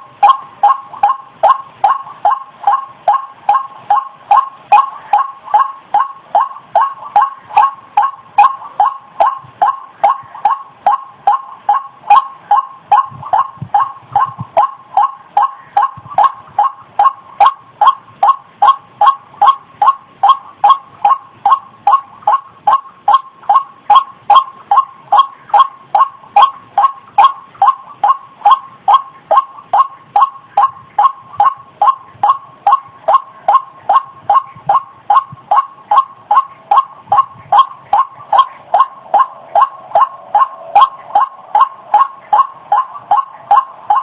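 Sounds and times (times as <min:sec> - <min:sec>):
harsh bird call: 0:00.0 - 0:44.0.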